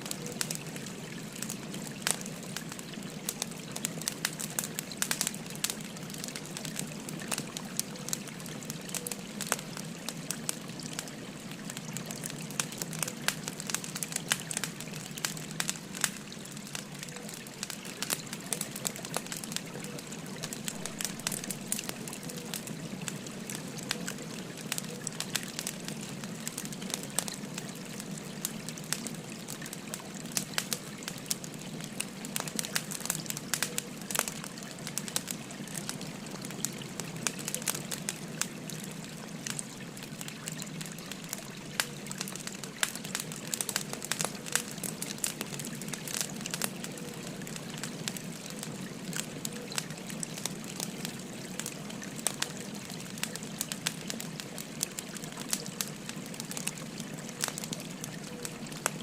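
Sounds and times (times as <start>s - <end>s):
firewood fire crackling: 0.0s - 59.0s.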